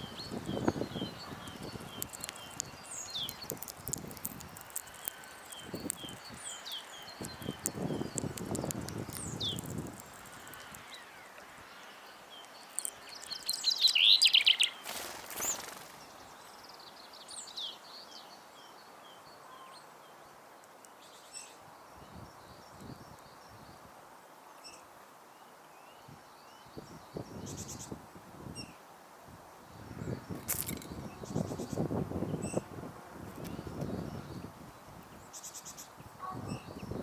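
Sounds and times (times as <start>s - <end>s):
songbirds singing and chirping: 0.0s - 28.8s, 29.6s - 37.0s.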